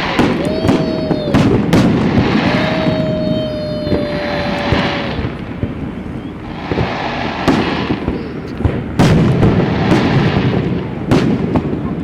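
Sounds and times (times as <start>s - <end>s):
fireworks sharp bangs: 0.0s - 12.0s
rumble of fireworks bursts: 0.0s - 12.0s.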